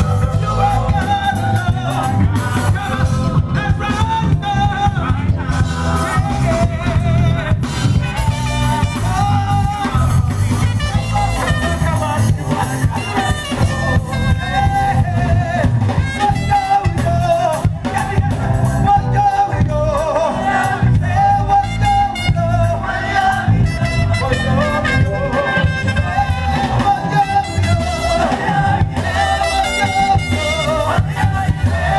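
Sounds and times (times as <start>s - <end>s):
live band playing: 0.0s - 31.9s
person singing: 0.0s - 31.9s.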